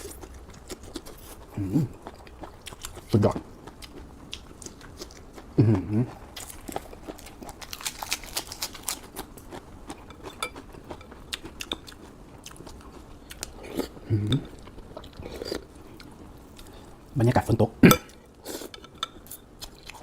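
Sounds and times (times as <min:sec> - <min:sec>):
person chewing noodles: 0:00.0 - 0:17.1.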